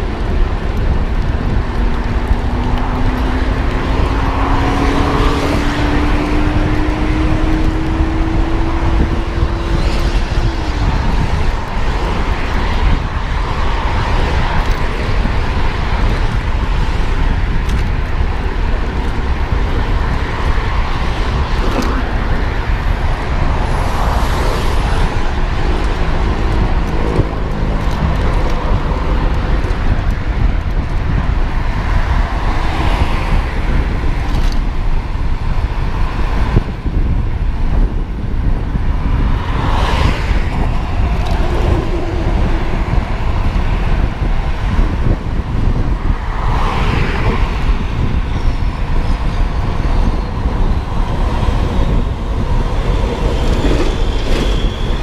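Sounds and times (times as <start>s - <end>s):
vehicles passing: 0.0s - 55.0s
wind rush on microphone: 0.0s - 55.0s.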